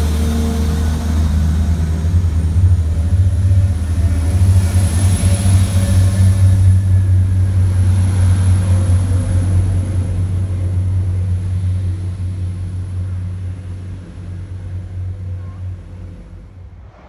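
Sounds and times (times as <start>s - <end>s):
train diesel engines droning: 0.0s - 17.0s.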